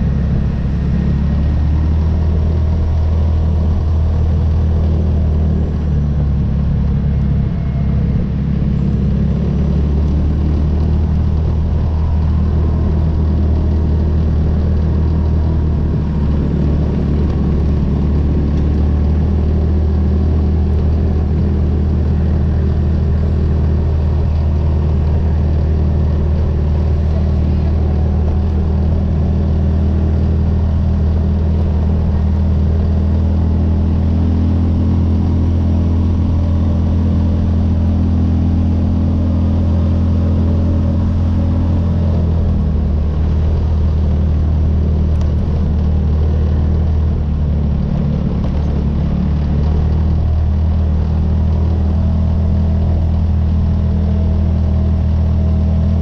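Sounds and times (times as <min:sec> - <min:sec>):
atv engine droning: 0:00.0 - 0:56.0.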